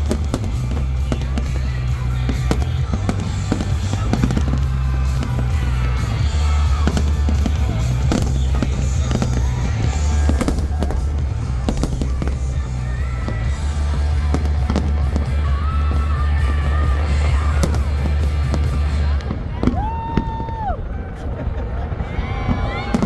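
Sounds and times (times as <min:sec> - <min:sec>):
music with heavy bass: 0:00.0 - 0:19.2
fireworks bursting: 0:00.0 - 0:23.0.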